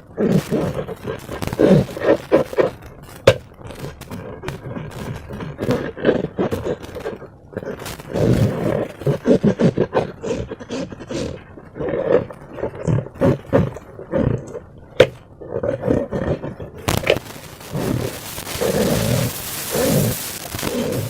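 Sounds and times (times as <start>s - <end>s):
slime squelching: 0.0s - 13.8s, 16.8s - 21.0s.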